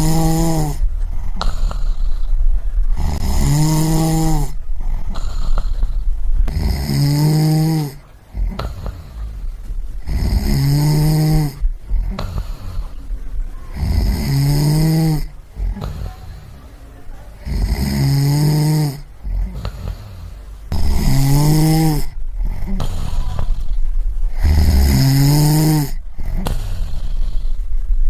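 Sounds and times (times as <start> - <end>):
person snoring: 0.0 - 9.4, 10.0 - 13.0, 13.7 - 16.6, 17.4 - 27.6.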